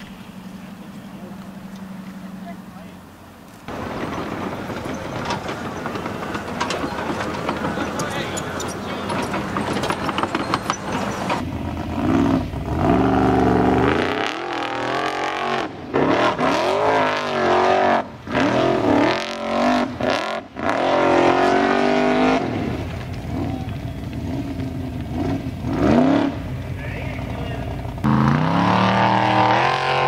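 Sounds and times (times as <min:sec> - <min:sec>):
buggy engine revving: 0:00.0 - 0:30.0.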